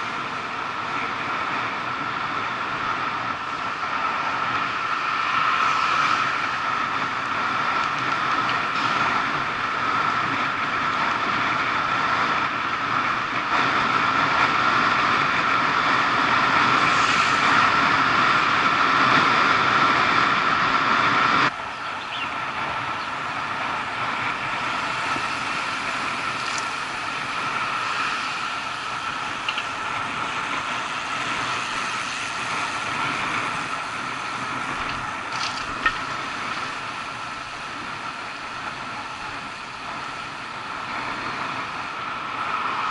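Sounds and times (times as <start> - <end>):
wind and road rush: 0.0 - 42.9.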